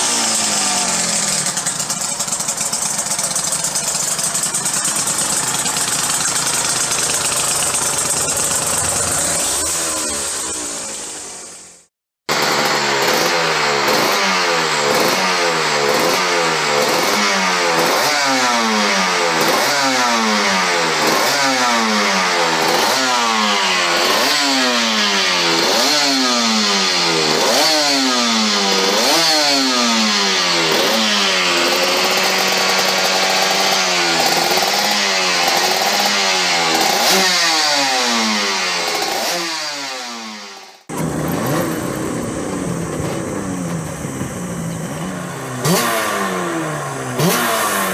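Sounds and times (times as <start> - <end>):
different race engine: 0.0 - 47.9
race bike engine revving: 0.0 - 47.9.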